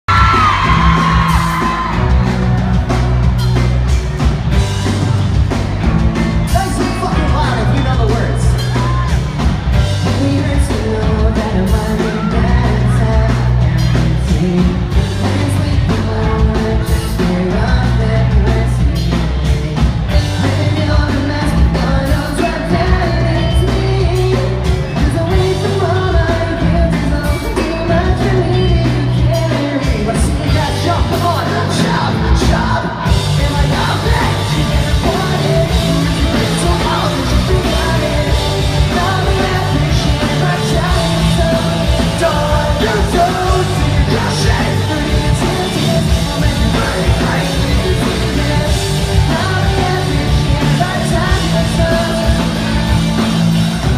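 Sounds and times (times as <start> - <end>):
pop-punk band playing: 0.0 - 53.9
person singing: 6.4 - 53.9.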